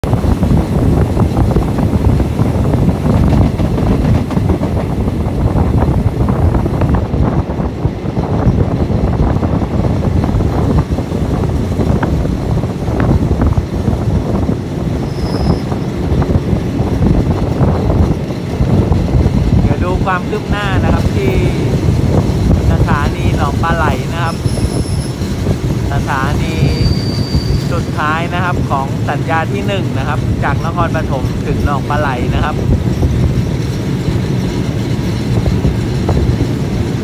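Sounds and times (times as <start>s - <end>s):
train wheels rumbling on rail: 0.0s - 37.0s
wind buffeting microphone: 0.0s - 37.0s.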